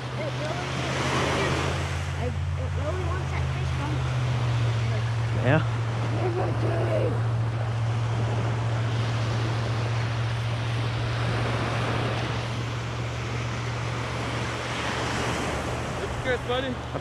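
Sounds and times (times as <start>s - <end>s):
steady low hum: 0.0s - 17.0s
surf washing onto beach: 0.0s - 17.0s.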